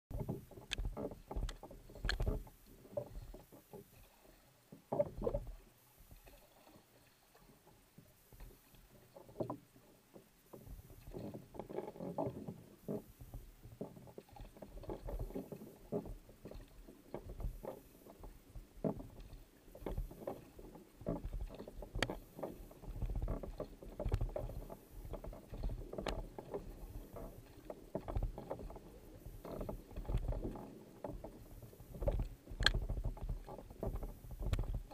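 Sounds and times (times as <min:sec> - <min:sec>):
paddle strokes splashing water: 0:00.1 - 0:34.9.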